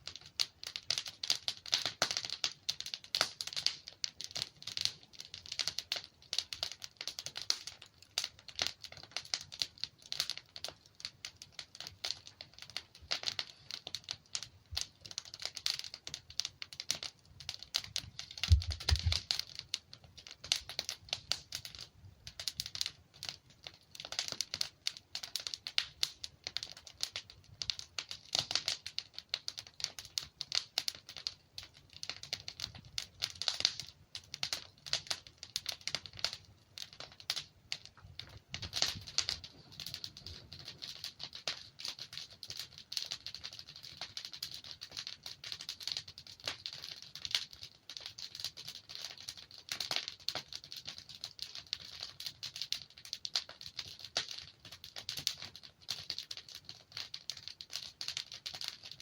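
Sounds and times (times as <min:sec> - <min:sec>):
logs crackling in fireplace: 0:00.0 - 0:59.0.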